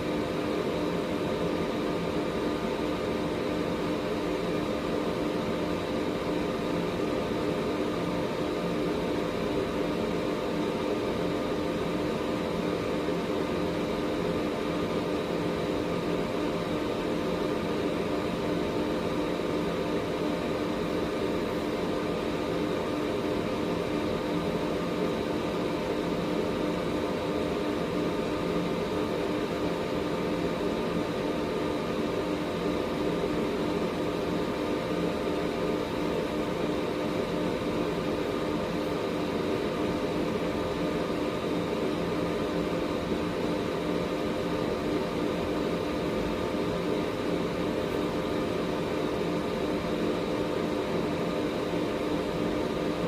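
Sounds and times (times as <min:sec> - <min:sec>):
air purifier fan rushing: 0:00.0 - 0:53.0.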